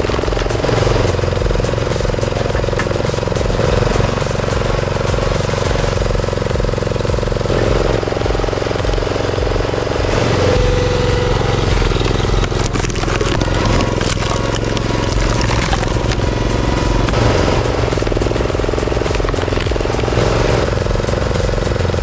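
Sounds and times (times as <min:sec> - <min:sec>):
machine whine: 0:00.0 - 0:22.0.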